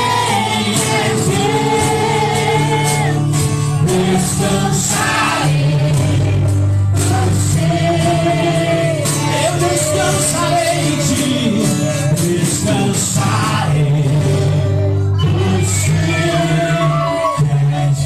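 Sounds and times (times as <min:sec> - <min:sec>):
worship band playing: 0:00.0 - 0:18.0.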